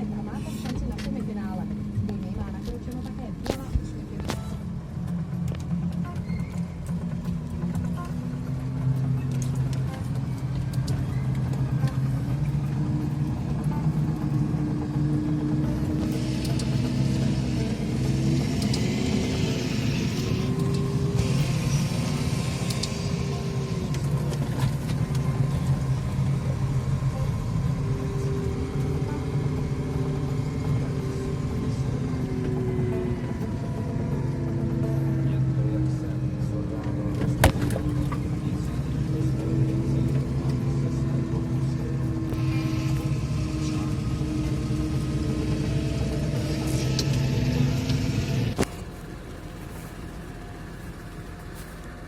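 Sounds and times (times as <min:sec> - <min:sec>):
farm vehicle engine running: 0:00.0 - 0:52.0.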